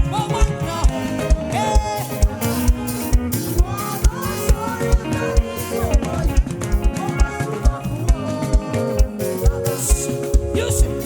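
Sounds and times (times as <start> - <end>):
live band playing upbeat groove: 0.0 - 11.0.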